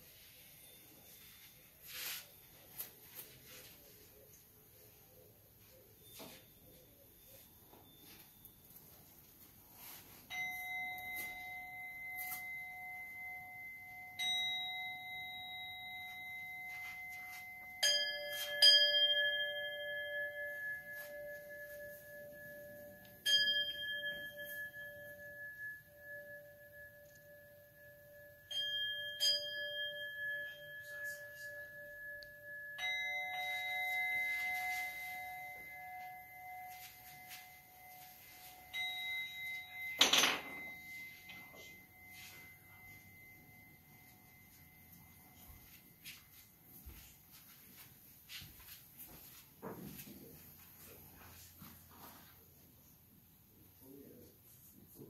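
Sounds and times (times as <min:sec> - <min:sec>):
bowl bells ringing: 0:00.0 - 0:55.0.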